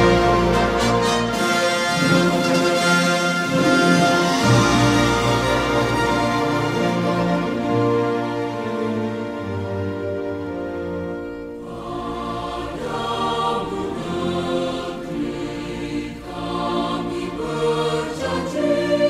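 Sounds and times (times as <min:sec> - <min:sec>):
choir-like singing: 0:00.0 - 0:09.9, 0:11.1 - 0:19.0.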